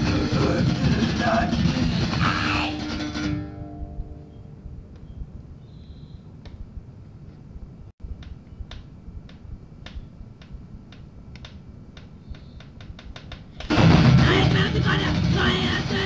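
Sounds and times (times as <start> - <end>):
cassette hum and hiss: 0.0 - 16.0.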